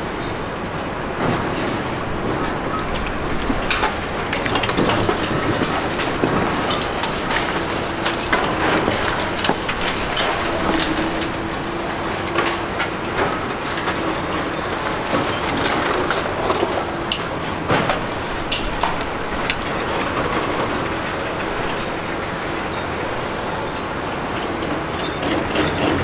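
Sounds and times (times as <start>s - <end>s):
heavy machinery engine: 0.0s - 26.0s
debris and metal clattering: 1.2s - 22.8s, 24.3s - 26.0s.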